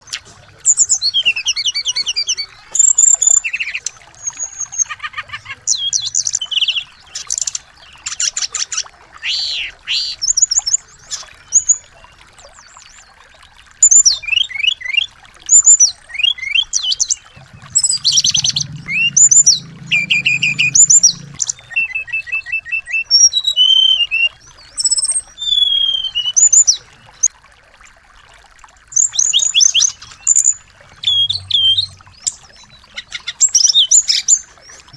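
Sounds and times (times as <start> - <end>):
songbirds singing: 0.0 - 27.3, 28.9 - 34.9.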